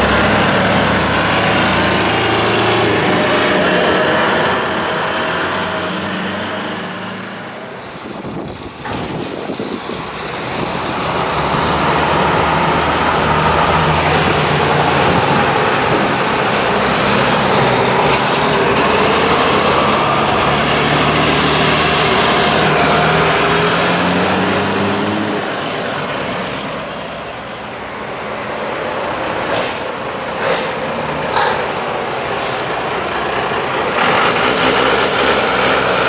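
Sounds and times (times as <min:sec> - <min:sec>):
trucks driving past: 0:00.0 - 0:36.0.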